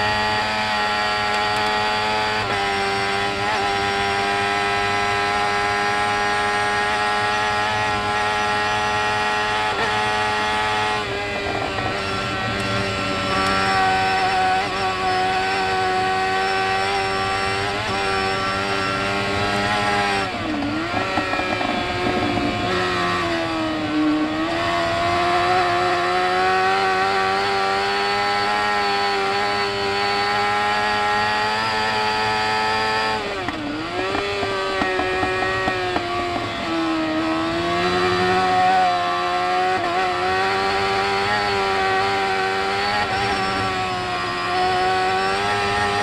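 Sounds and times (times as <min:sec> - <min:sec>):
motorcycle engine at high revs: 0:00.0 - 0:46.0.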